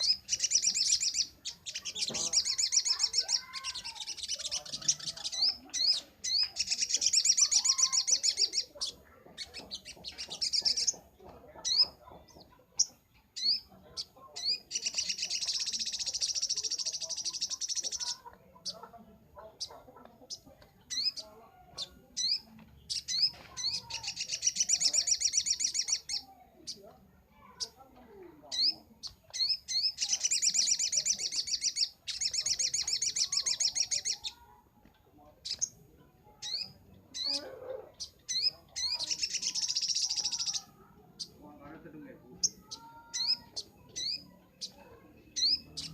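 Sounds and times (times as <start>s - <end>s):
bird chirping and trilling: 0.0s - 34.6s, 35.3s - 45.9s.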